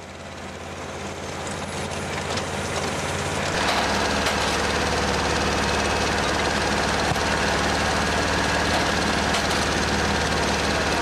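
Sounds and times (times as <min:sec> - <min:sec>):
machine engine chugging: 0:00.0 - 0:11.0.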